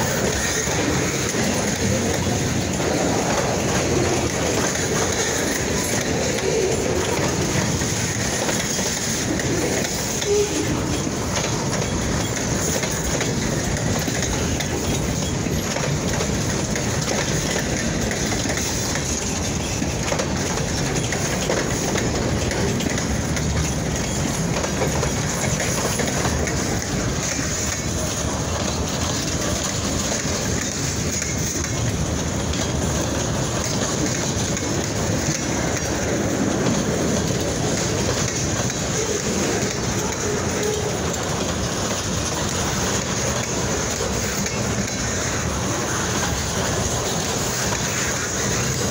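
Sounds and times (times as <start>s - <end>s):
freight train rumbling past: 0.0s - 48.9s
wheels clicking over rail joints: 0.0s - 48.9s.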